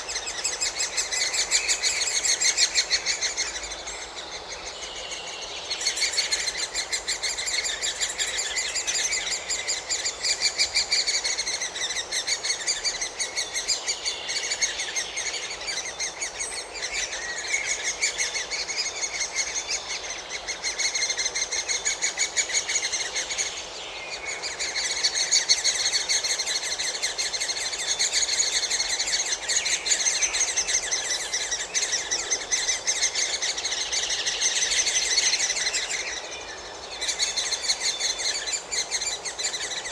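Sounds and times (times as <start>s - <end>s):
woodpecker nestlings begging: 0.0s - 39.9s.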